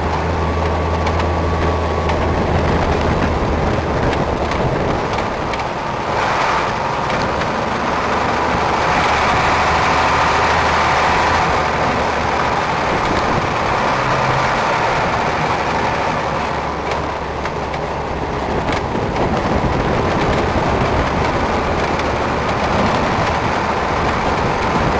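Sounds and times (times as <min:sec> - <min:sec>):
vehicle engine and road noise: 0:00.0 - 0:24.9.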